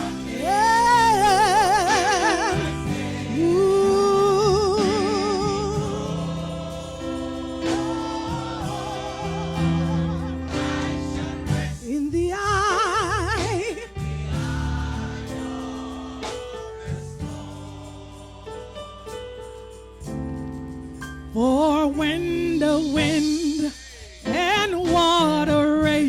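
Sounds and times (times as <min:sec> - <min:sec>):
person singing gospel: 0:00.0 - 0:20.0, 0:21.3 - 0:26.0.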